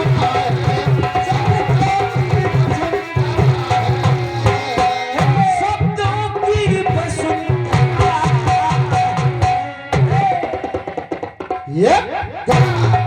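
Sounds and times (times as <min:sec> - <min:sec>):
quick hand-drum rhythm: 0:00.0 - 0:13.0.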